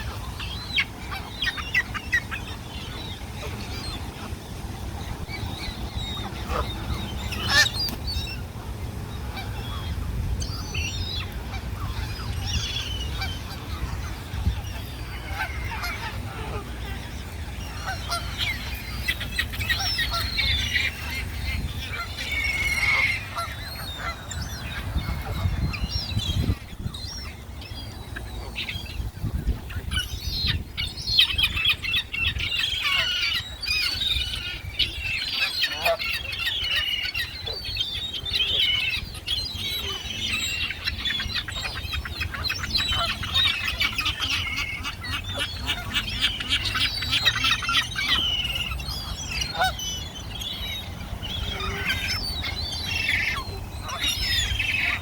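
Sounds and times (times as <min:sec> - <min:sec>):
flock of birds chattering: 0:00.0 - 0:55.0.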